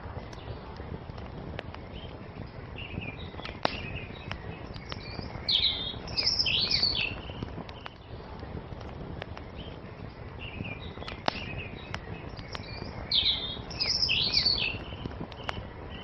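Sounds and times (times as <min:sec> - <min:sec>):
wood fire crackling: 0:00.0 - 0:16.0
songbird chirping: 0:01.7 - 0:08.3, 0:09.4 - 0:16.0.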